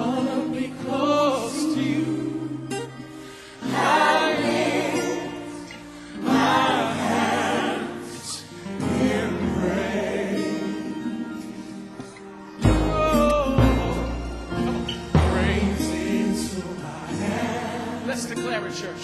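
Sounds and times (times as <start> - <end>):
gospel voices singing with music: 0.0 - 19.0.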